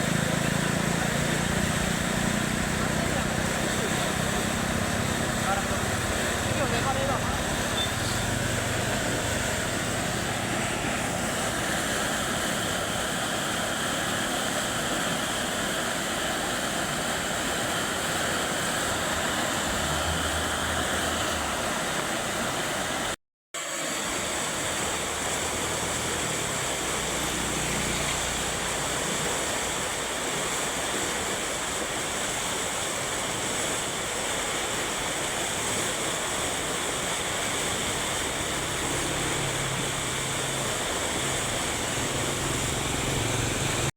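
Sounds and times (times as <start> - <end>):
river rushing: 0.0 - 43.9.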